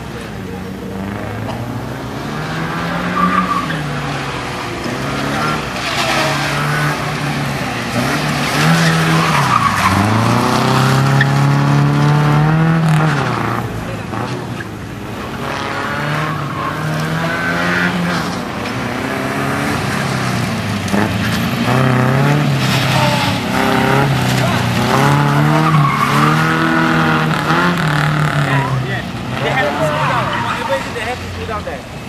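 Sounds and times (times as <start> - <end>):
car engine revving: 0.0 - 32.0
tyres squealing: 2.4 - 31.9.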